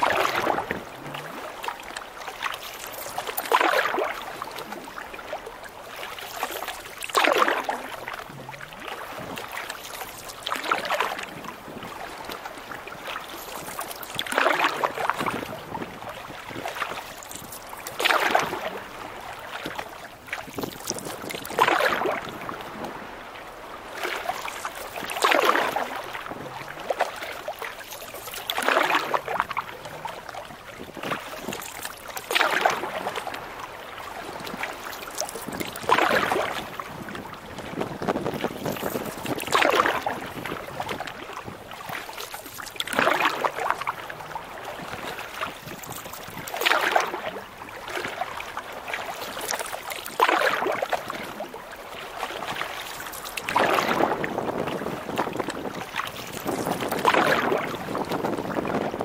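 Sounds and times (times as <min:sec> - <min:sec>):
paddle swishing in water: 0:00.0 - 0:59.0.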